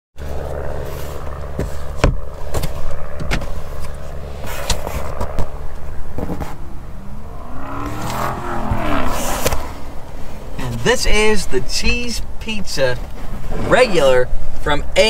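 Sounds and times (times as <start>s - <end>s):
car running hum: 0.2s - 15.0s.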